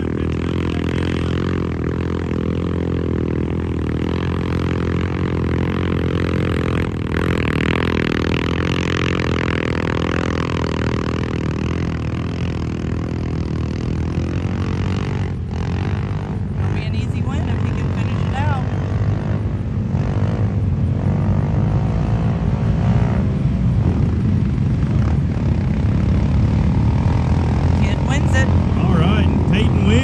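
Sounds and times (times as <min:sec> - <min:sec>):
atv engines revving high: 0:00.0 - 0:30.0.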